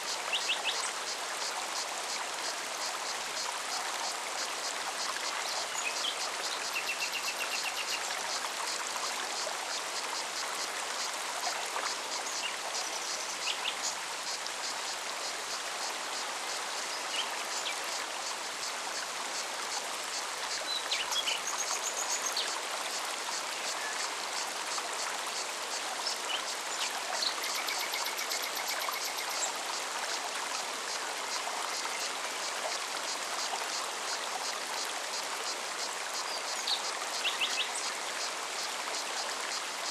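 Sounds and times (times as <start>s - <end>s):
forest stream running: 0.0s - 39.9s.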